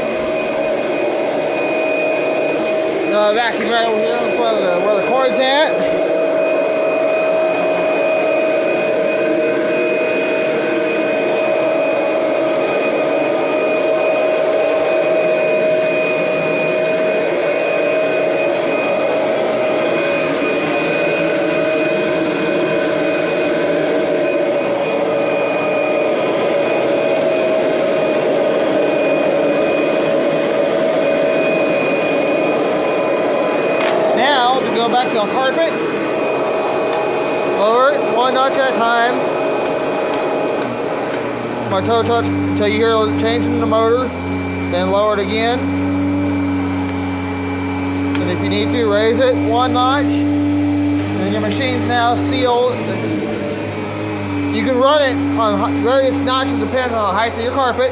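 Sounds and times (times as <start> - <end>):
vacuum cleaner motor whine: 0.0 - 57.9.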